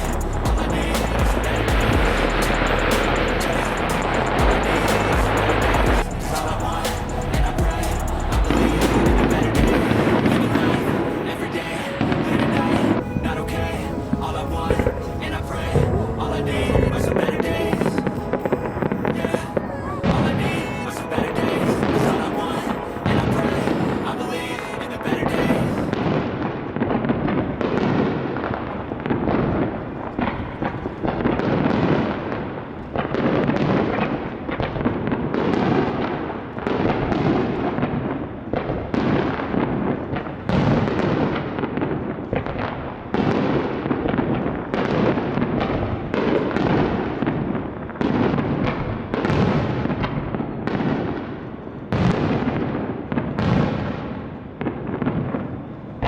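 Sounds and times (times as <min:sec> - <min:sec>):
fireworks booming: 0:00.0 - 0:56.0
fireworks crackling: 0:00.0 - 0:56.0.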